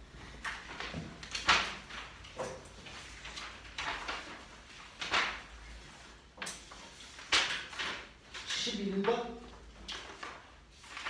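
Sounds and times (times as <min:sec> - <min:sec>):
paper rustling: 0:00.3 - 0:11.0.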